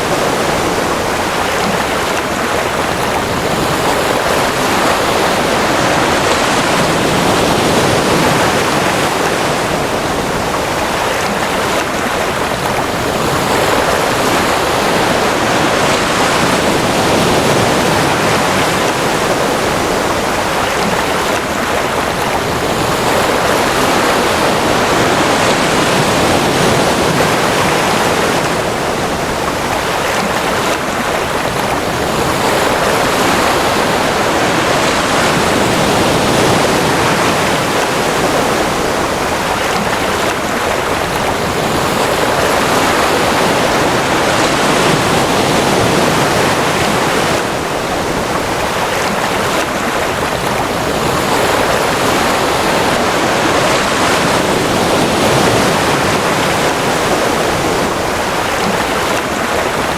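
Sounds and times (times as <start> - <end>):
ocean waves surf: 0.0 - 59.9.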